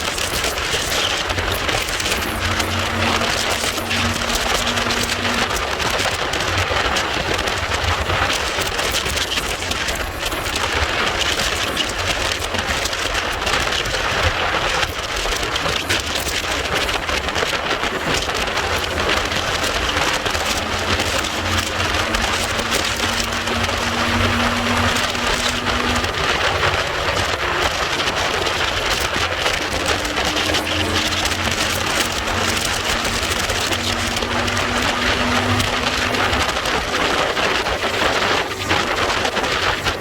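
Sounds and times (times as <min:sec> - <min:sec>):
motorcycle engine hum: 0:00.0 - 0:40.0
road noise: 0:00.0 - 0:40.0
wind rush: 0:00.0 - 0:40.0.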